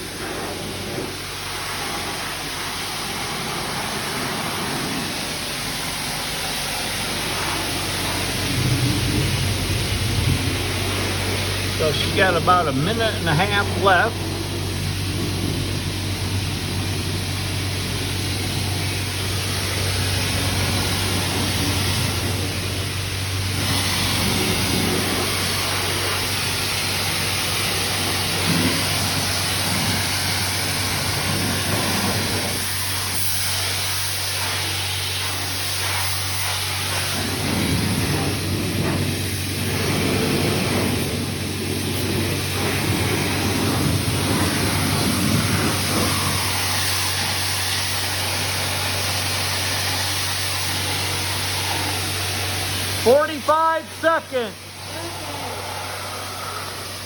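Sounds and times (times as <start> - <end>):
constant low hum: 0.0 - 57.0
pressure washer spraying water: 0.0 - 57.0.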